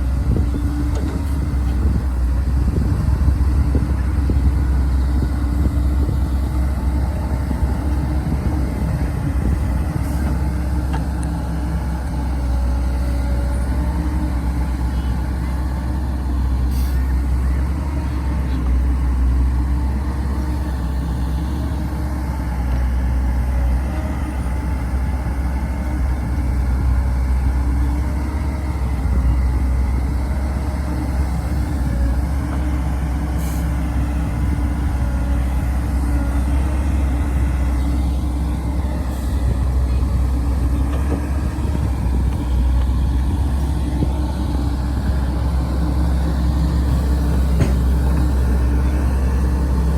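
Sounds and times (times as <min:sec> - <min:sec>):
heavy diesel engine droning: 0:00.0 - 0:49.9.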